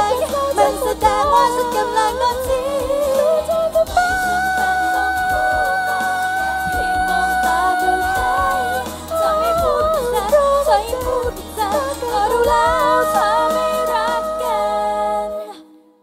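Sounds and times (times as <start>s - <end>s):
pop song with female singing: 0.0s - 15.8s.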